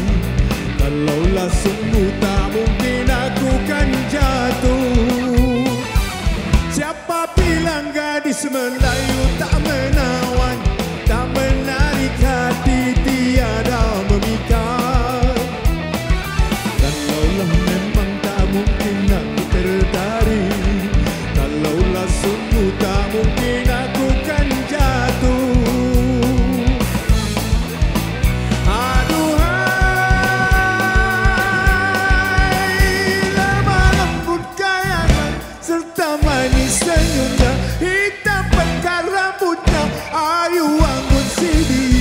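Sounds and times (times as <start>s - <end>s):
drums keeping a steady beat: 0.0s - 42.0s
electric guitar: 0.0s - 42.0s
live band playing pop song: 0.0s - 42.0s.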